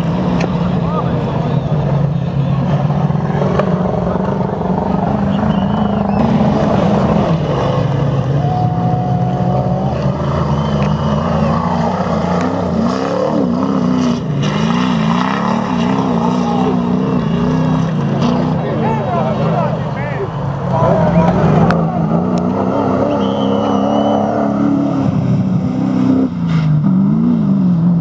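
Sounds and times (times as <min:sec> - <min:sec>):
truck engine revving under load: 0:00.0 - 0:28.0.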